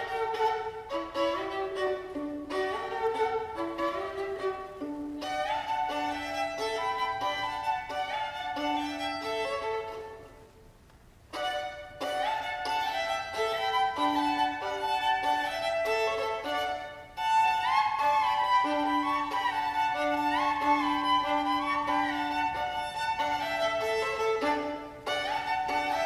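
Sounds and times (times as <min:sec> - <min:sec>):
violin playing double stops: 0:00.0 - 0:10.6, 0:11.3 - 0:26.0.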